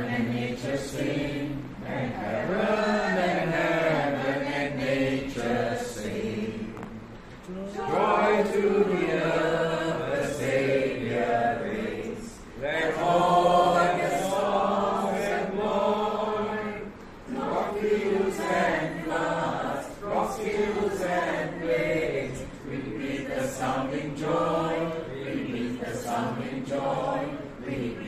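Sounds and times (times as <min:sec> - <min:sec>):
group singing a hymn: 0:00.0 - 0:28.0.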